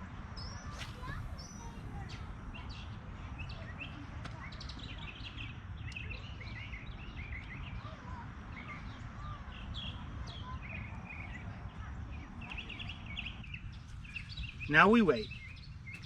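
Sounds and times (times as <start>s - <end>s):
small birds chirping: 0.3s - 16.0s.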